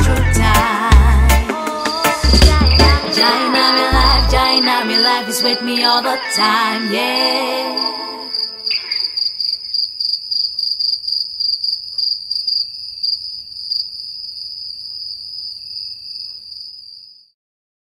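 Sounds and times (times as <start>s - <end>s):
insect chirping trill: 1.7s - 17.4s.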